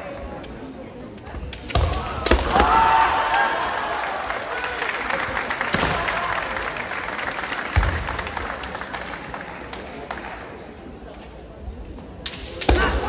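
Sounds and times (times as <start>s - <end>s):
voices in large hall: 0.0s - 13.0s.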